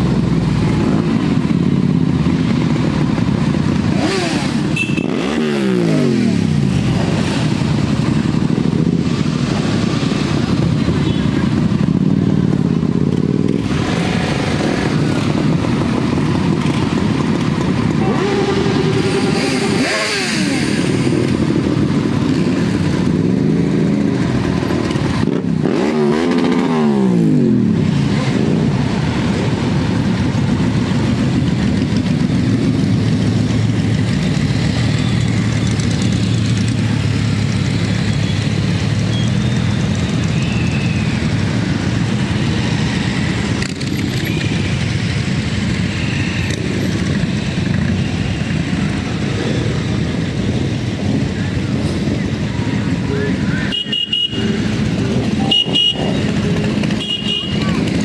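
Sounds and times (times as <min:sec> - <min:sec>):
motorcycle engine revving: 0:00.0 - 0:58.0
motorcycle engines rumbling: 0:00.0 - 0:58.0.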